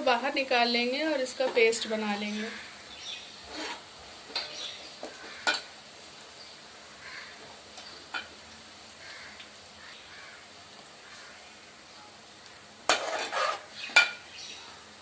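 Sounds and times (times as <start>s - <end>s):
hot oil sizzling: 0.0s - 15.0s.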